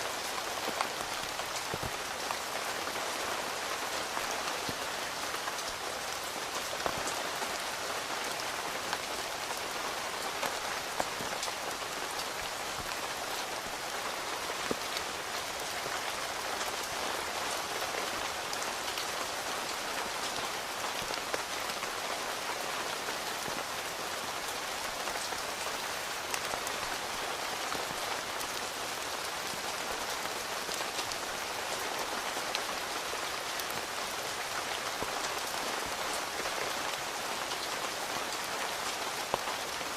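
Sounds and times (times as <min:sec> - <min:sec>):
rain on a tent: 0:00.0 - 0:39.9.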